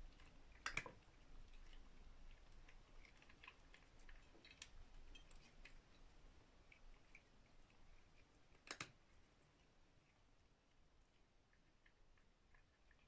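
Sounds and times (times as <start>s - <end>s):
cats chewing: 0.0s - 13.0s.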